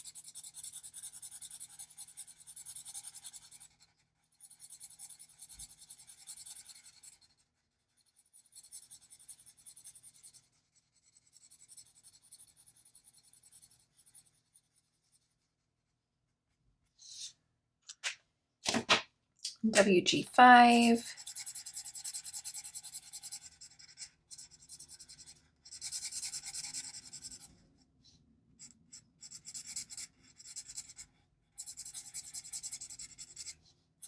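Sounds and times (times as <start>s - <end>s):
marker scratching across paper: 0.0s - 15.8s, 20.5s - 27.6s, 28.6s - 33.8s.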